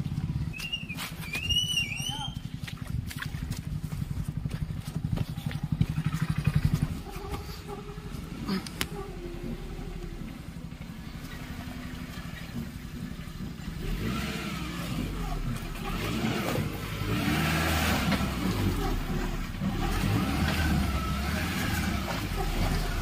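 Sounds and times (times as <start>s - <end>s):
off-road vehicle engine: 0.0s - 23.0s.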